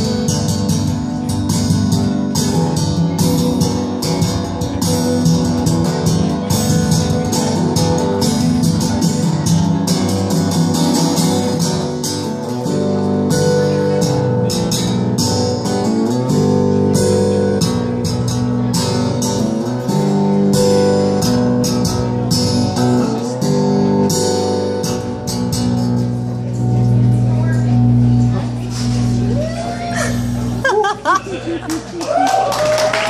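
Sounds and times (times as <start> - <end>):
acoustic guitar strumming: 0.0 - 31.6.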